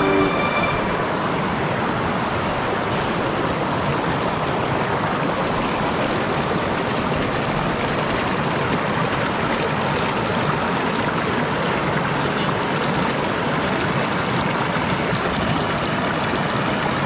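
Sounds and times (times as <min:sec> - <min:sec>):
water flowing over waterfall: 0:01.1 - 0:17.0.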